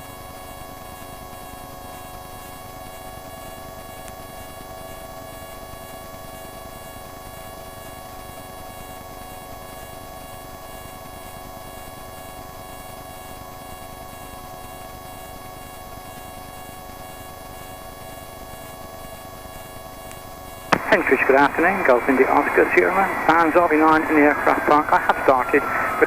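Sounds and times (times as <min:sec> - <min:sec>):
light aircraft engine drone: 0:00.0 - 0:26.0.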